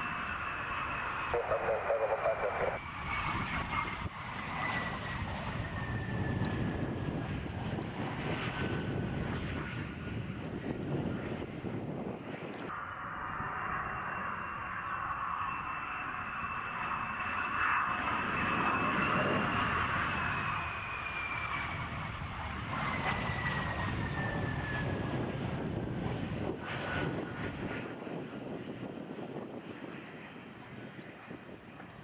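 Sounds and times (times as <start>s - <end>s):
fighter jet engine whine: 0.0s - 32.0s.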